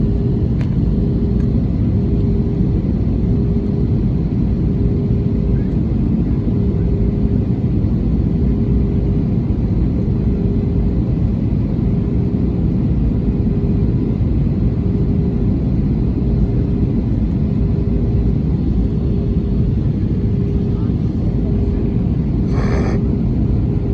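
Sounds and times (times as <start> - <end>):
airliner engines rumbling: 0.0 - 23.9.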